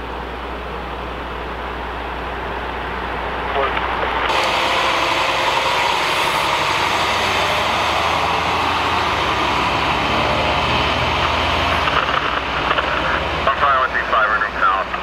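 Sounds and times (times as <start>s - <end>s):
heavy vehicle engines running: 0.0s - 15.0s.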